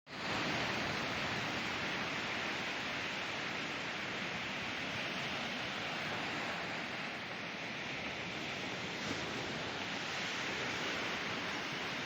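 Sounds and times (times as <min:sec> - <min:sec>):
ocean surf breaking: 0:00.1 - 0:12.0.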